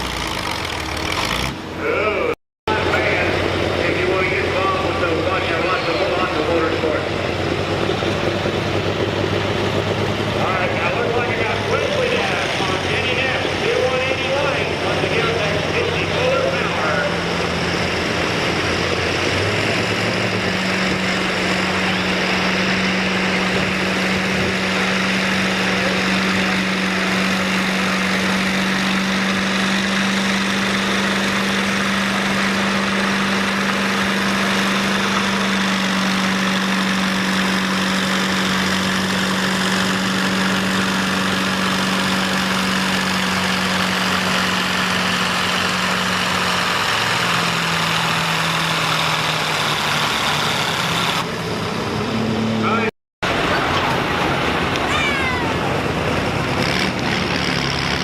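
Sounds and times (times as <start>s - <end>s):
vehicle engine droning: 0.0s - 58.0s.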